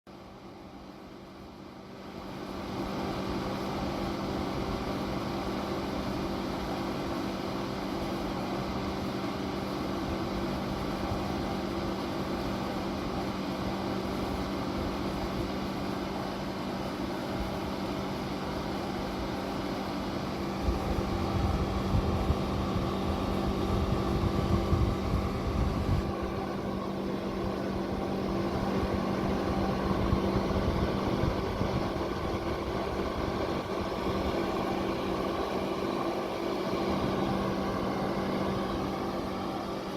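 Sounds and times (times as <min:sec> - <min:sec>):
electric fan humming: 0:00.1 - 0:39.9.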